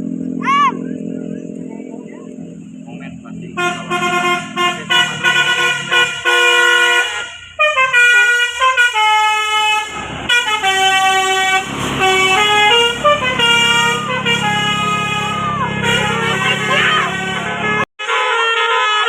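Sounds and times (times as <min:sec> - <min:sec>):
musical bus horn melody: 0:03.5 - 0:19.0.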